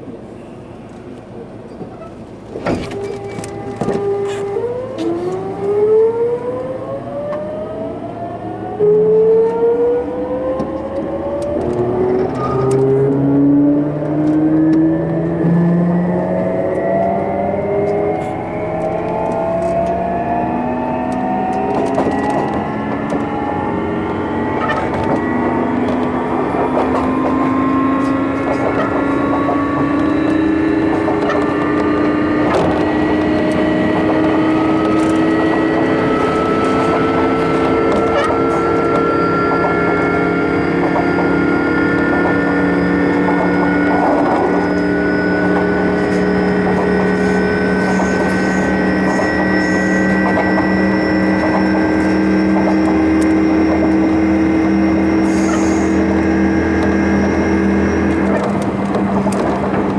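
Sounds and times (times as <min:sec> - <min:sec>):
electric train motors whining: 0:02.2 - 0:59.9.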